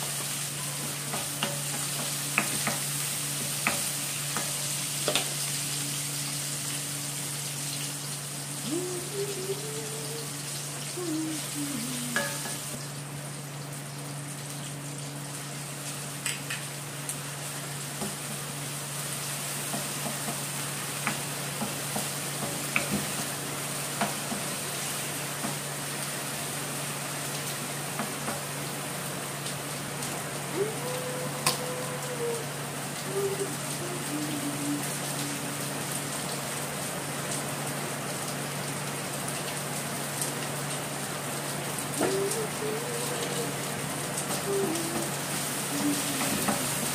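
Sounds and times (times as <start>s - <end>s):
food sizzling in oil: 0.0s - 31.4s, 32.4s - 46.9s.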